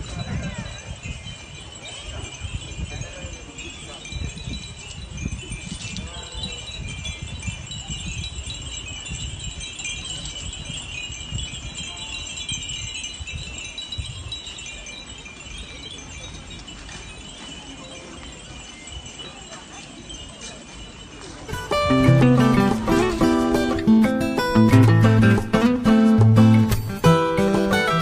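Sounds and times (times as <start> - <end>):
glass wind chimes tinkling: 0.0 - 28.0.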